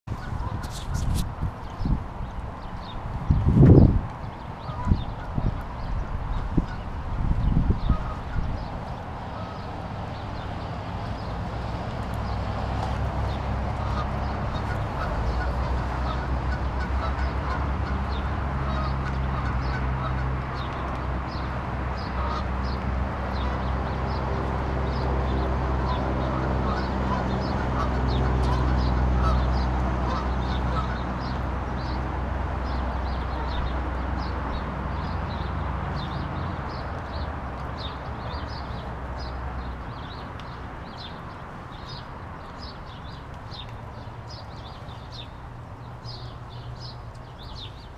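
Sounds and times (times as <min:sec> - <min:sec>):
birds calling: 0:00.1 - 0:47.9.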